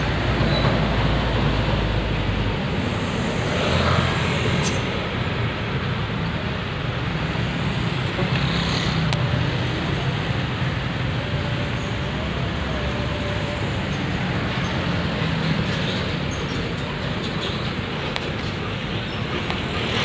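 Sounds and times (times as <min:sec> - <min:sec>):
heavy highway traffic rumble: 0:00.0 - 0:20.0
vehicles hissing past: 0:00.0 - 0:20.0.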